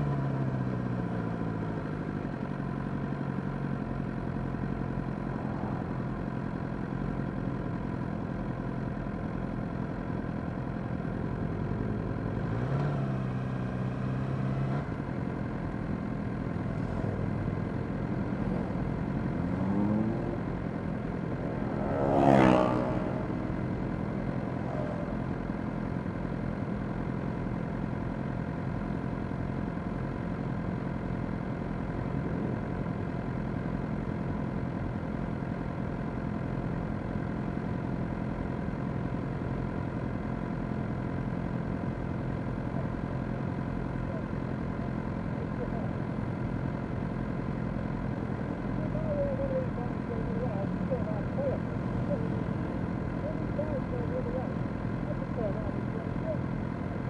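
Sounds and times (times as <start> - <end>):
motorcycle engine running: 0.0 - 57.0
other motorcycles: 0.0 - 57.0.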